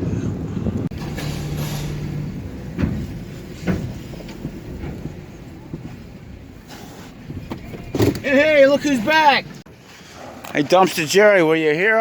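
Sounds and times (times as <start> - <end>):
low vehicle rumble: 0.0 - 9.9.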